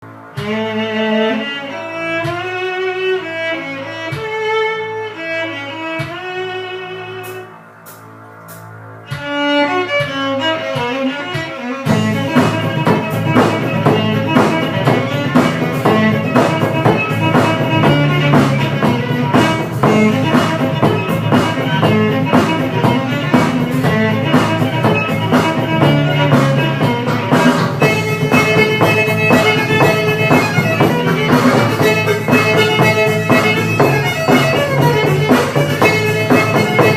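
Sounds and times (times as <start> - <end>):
backing music with steady beat: 0.0 - 36.9
bowed violin melody: 0.0 - 36.9.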